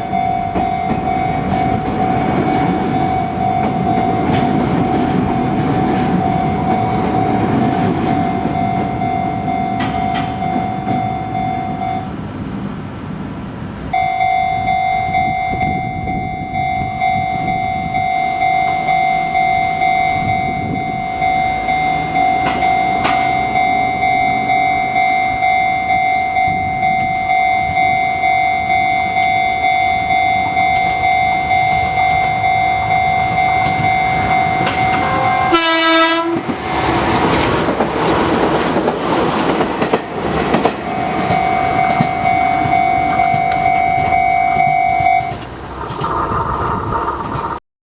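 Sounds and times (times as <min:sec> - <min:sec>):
level crossing alarm bell ringing: 0:00.0 - 0:12.2, 0:13.9 - 0:45.4
electric train running over crossing: 0:00.0 - 0:47.6.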